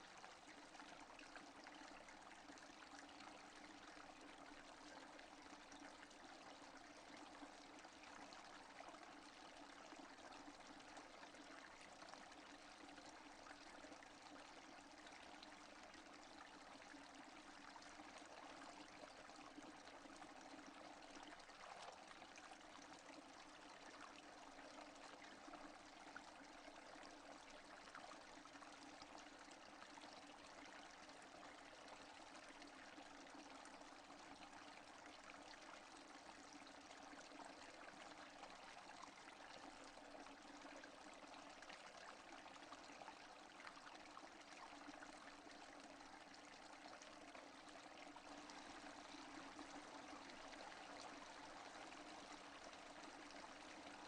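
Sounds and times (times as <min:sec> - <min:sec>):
faint steady rain: 0:00.0 - 0:54.0.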